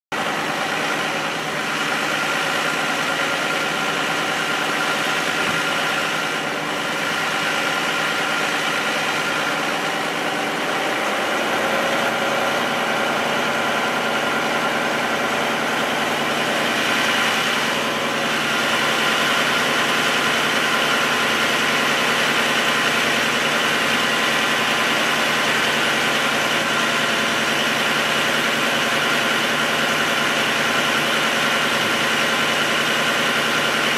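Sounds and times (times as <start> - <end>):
engine running steadily: 0.1 - 33.9.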